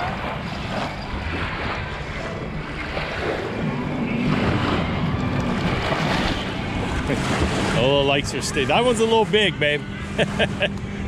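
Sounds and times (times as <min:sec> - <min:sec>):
small waves breaking on shore: 0:00.0 - 0:10.6
low engine drone: 0:00.0 - 0:11.0.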